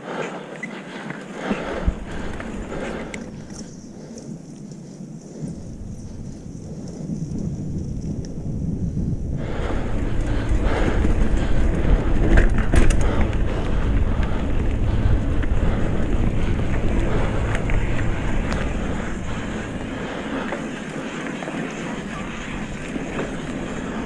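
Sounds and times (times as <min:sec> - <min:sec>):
bike rattles and clicks: 0:00.0 - 0:24.0
bike tyre and drivetrain noise: 0:00.0 - 0:24.0
wind buffeting microphone: 0:01.4 - 0:24.0.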